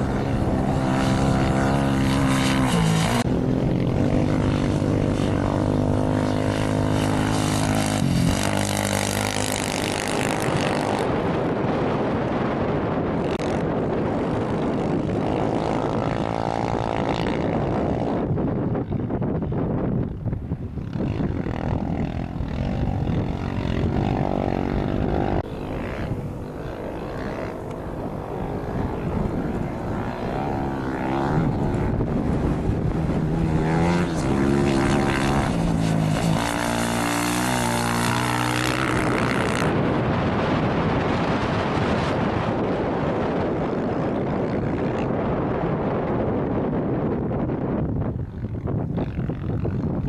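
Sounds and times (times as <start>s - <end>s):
wind on microphone: 0.0s - 50.0s.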